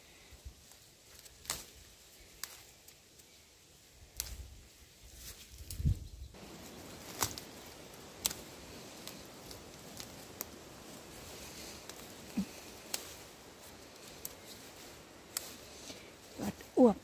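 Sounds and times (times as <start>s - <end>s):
leafy branches rustling: 0.0s - 17.0s
stems snapping: 0.7s - 3.4s, 4.0s - 4.6s, 5.2s - 16.7s.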